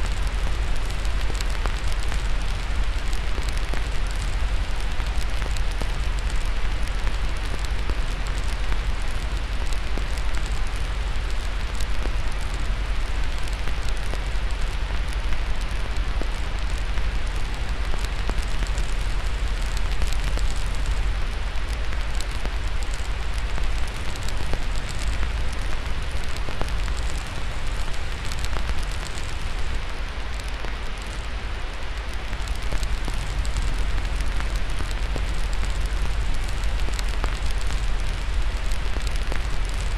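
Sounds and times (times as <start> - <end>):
white-noise hiss: 0.0 - 39.9
wood fire crackling: 0.0 - 39.9.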